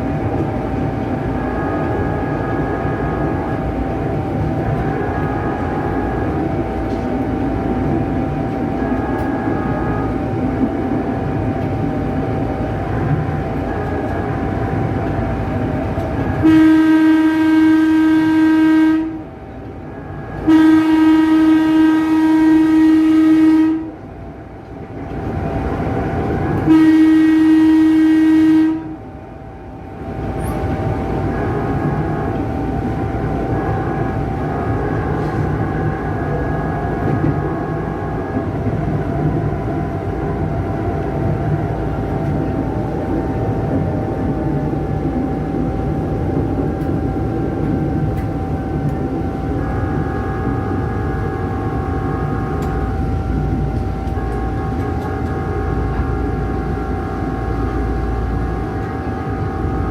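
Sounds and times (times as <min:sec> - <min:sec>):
electric train rumbling and whining: 0:00.0 - 0:59.9
electric train horn blasts: 0:00.8 - 0:11.4, 0:12.0 - 0:24.1, 0:26.3 - 0:29.1, 0:29.9 - 0:45.5, 0:46.1 - 0:59.9.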